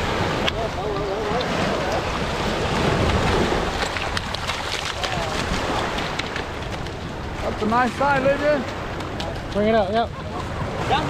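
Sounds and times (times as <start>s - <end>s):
fish splashing in shallow water: 0.0s - 11.0s
waves washing over pebbles: 0.0s - 11.0s.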